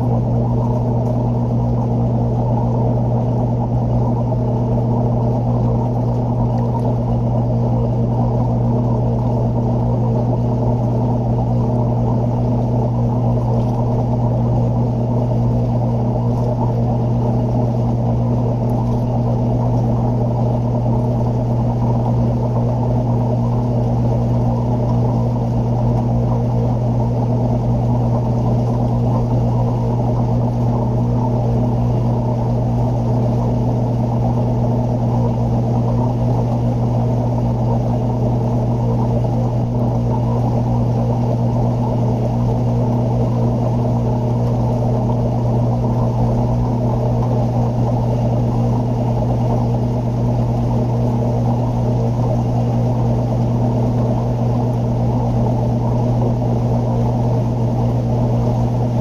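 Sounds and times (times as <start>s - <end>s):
aquarium pump humming: 0.0s - 59.0s.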